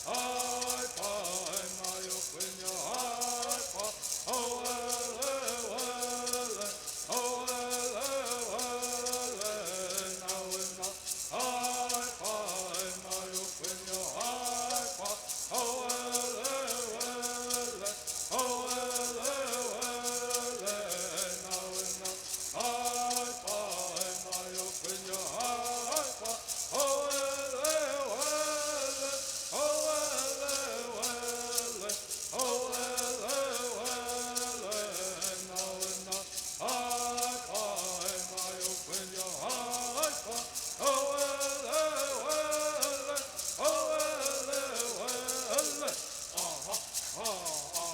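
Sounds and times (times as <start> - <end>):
gourd rattles shaking: 0.0 - 47.9
singers chanting: 0.0 - 47.9.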